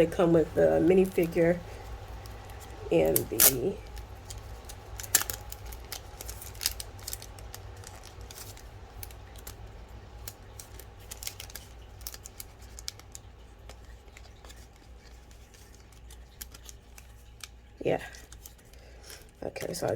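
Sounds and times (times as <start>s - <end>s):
packaging being handled: 1.0s - 19.9s.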